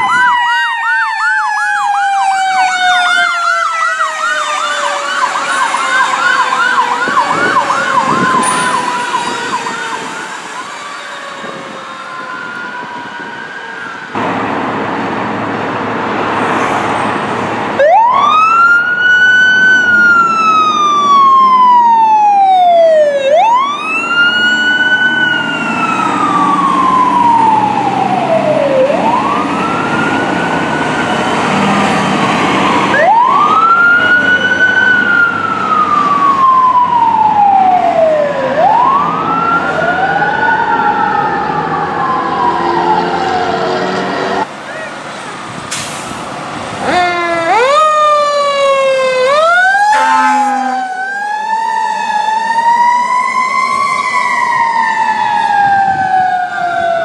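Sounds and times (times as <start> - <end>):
fast warbling siren: 0.0 - 14.2, 17.8 - 43.7, 46.8 - 57.0
siren winding up and falling: 0.0 - 14.2, 17.8 - 43.8, 46.8 - 57.0
truck engine rumble: 4.7 - 57.0.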